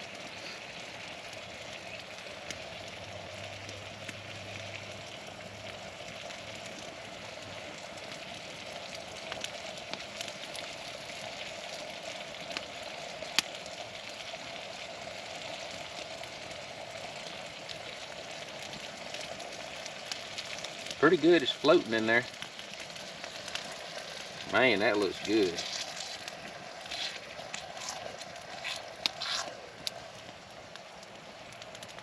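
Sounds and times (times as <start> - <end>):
burning wood crackling: 0.0 - 32.0
food sizzling in a pan: 0.0 - 32.0.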